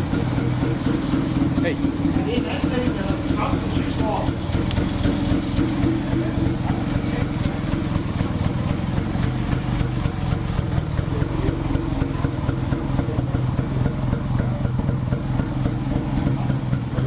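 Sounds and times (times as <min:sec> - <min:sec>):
two-stroke motorcycle engine idling: 0:00.0 - 0:17.0.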